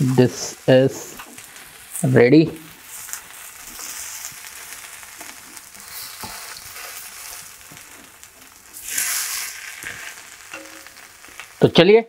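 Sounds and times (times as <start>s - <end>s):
buns sizzling on hot griddle: 0.0s - 12.0s.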